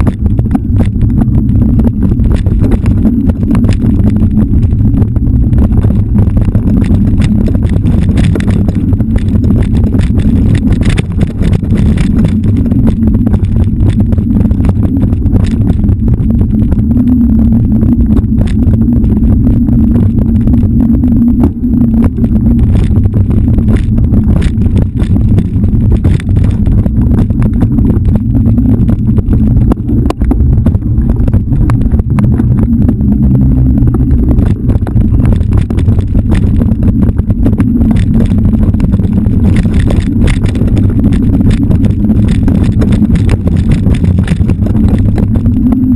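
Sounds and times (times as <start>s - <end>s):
sharp clicks and rattles: 0.0s - 45.9s
wind buffeting microphone: 0.0s - 45.9s.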